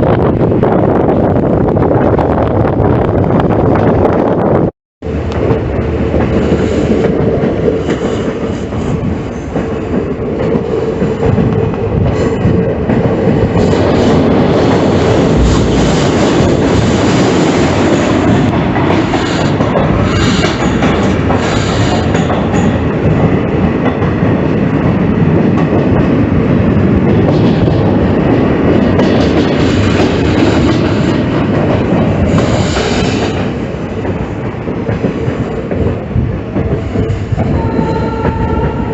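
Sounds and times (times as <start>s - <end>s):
train wheels clattering over rails: 5.4s - 38.9s.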